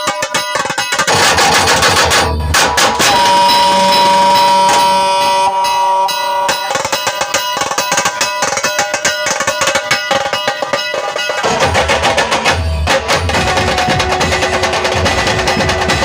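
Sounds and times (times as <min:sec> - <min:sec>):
fast drum strokes: 0:00.0 - 0:05.2, 0:06.4 - 0:16.0.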